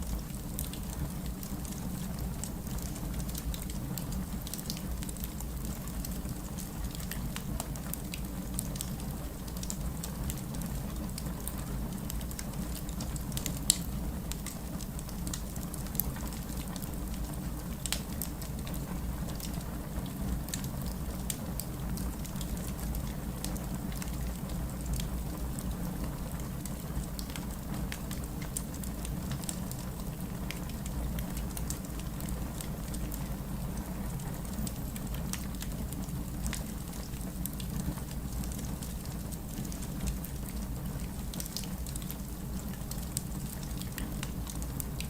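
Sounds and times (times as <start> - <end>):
fireplace crackling: 0.0 - 25.0, 25.6 - 45.0
steady rain: 0.0 - 45.0.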